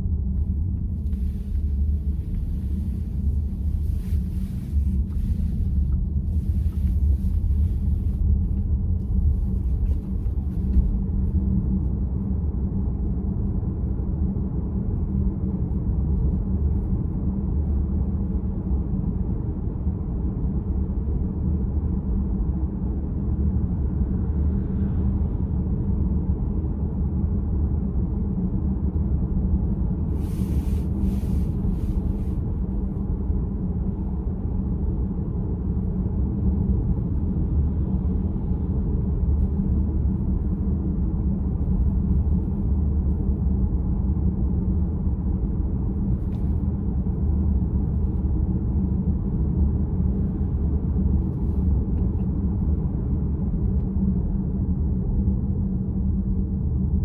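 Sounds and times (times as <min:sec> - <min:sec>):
road and tyre rumble in car: 0:00.0 - 0:57.0.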